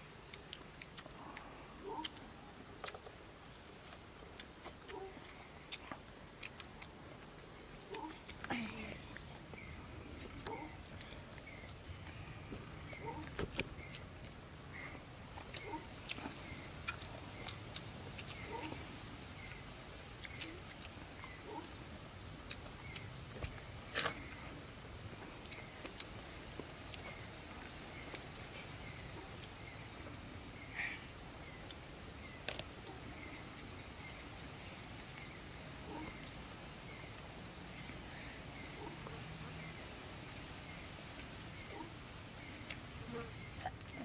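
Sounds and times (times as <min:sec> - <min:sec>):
high insect drone: 0:00.0 - 0:44.0
jungle ambience hiss: 0:00.0 - 0:44.0.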